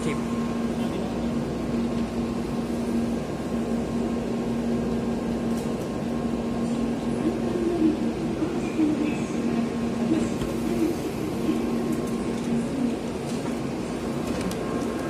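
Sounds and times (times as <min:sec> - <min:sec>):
stationary train hum: 0:00.0 - 0:15.0.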